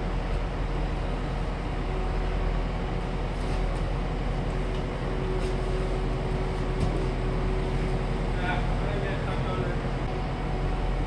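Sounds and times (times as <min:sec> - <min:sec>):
skid loader engine running: 0:00.0 - 0:11.0.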